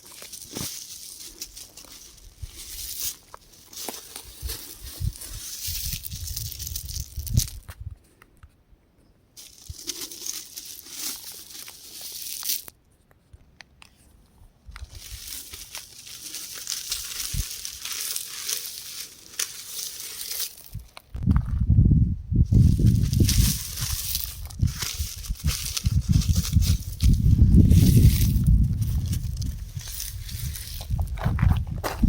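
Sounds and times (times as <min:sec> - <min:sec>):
rock crumbling and crunching: 0:00.0 - 0:07.9, 0:09.4 - 0:12.8, 0:14.7 - 0:21.8, 0:22.4 - 0:32.0.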